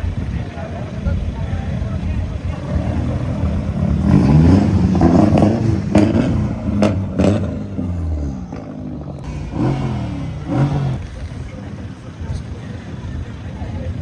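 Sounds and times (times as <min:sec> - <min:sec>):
exhaust cracks: 0:01.2 - 0:14.0
car engine revving: 0:01.9 - 0:14.0.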